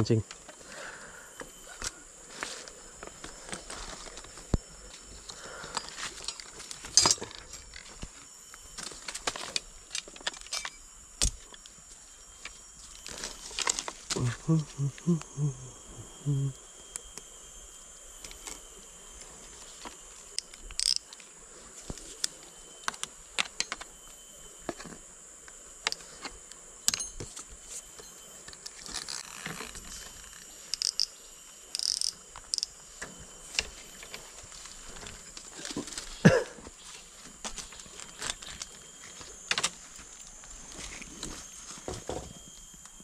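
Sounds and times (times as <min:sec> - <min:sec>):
insect chorus buzzing: 0:00.0 - 0:43.0.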